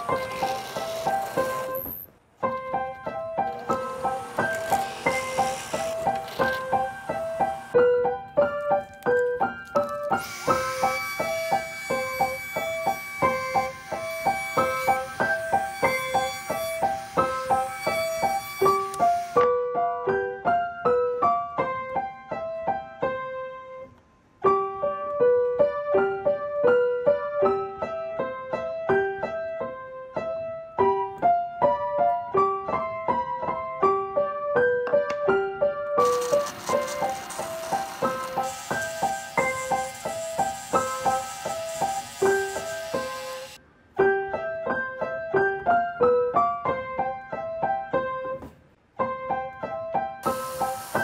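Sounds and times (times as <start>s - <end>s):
piano melody: 0.0s - 51.0s.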